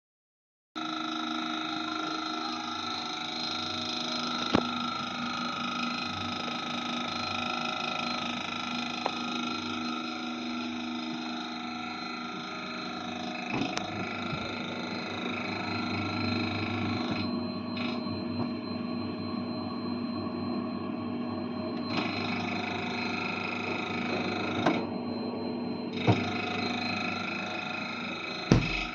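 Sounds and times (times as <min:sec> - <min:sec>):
refrigerator humming: 0:00.8 - 0:28.9.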